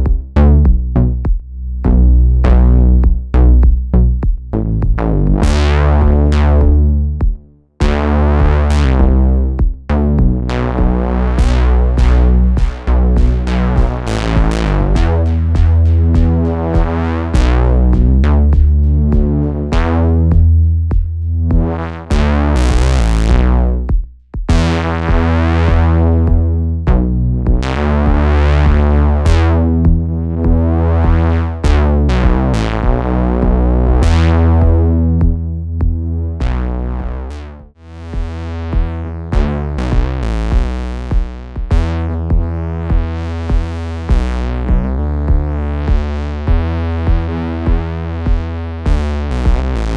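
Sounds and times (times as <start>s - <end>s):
gritty synthesizer bass line with filter sweep: 0.0s - 49.9s.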